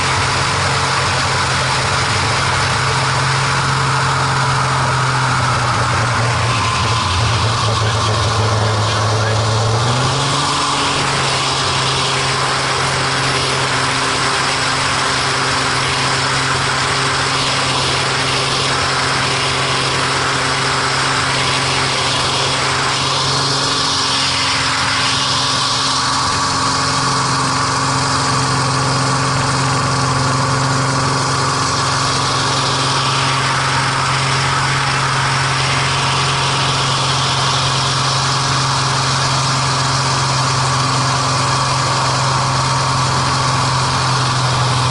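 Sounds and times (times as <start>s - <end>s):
aircraft engine and propeller: 0.0s - 44.9s.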